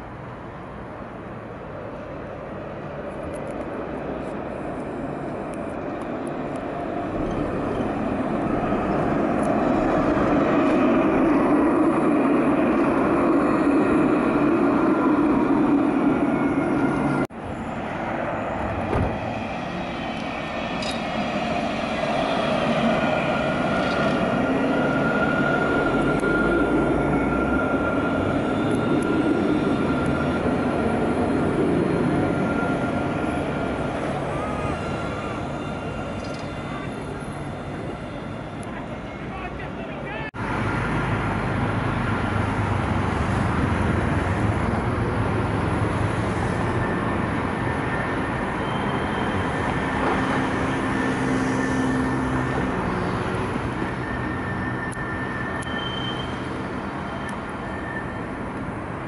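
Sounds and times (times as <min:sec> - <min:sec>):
tram running on rails: 0:00.0 - 0:59.0.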